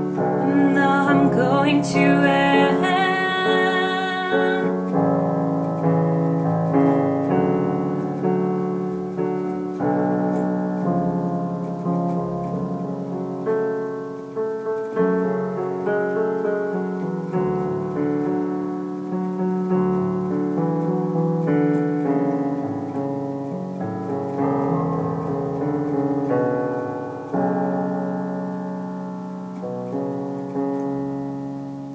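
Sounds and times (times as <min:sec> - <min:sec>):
piano music: 0:00.0 - 0:31.9.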